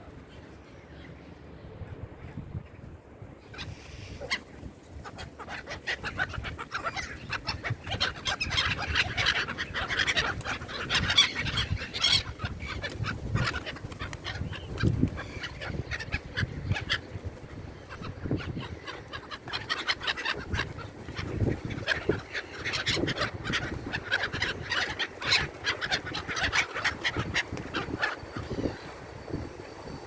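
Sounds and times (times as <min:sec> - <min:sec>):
seabirds calling: 0:00.2 - 0:30.0.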